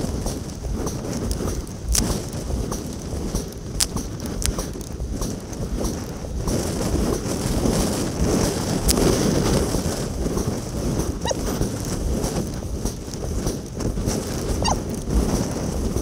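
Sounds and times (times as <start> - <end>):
oars knocking in oarlocks: 0.0 - 15.5
wind buffeting microphone: 0.0 - 16.0.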